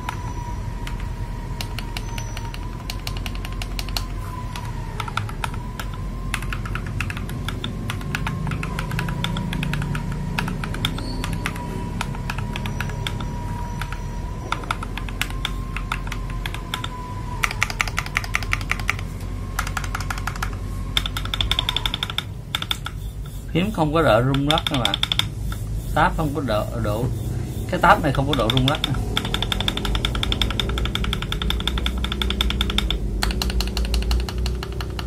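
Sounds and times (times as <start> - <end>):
mechanical keyboard typing: 0.8 - 23.1, 24.0 - 25.4, 27.8 - 35.0.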